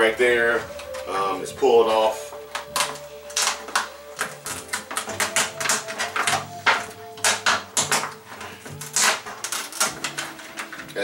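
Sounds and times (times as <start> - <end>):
plastic sheet crackling and rustling: 0.0 - 11.0.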